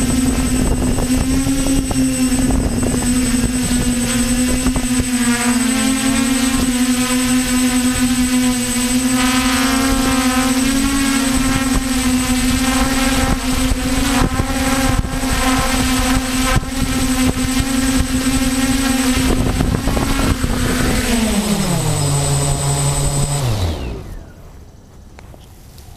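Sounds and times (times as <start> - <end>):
wind buffeting microphone: 0.0 - 25.4
drone motors humming: 0.0 - 25.5.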